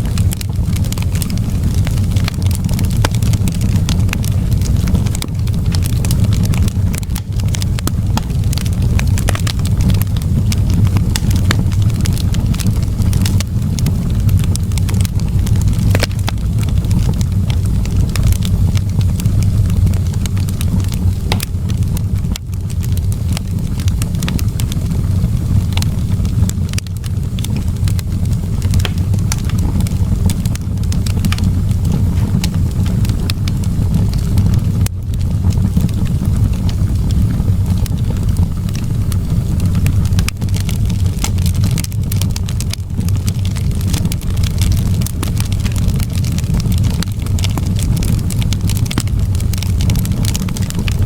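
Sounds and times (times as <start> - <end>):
fire low rumble: 0.0 - 51.0
wood fire crackling and popping: 0.0 - 51.0.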